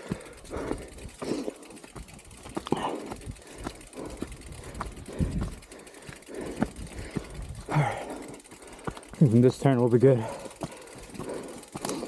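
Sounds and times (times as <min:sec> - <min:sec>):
bike rattling over rough trail: 0:00.0 - 0:12.0.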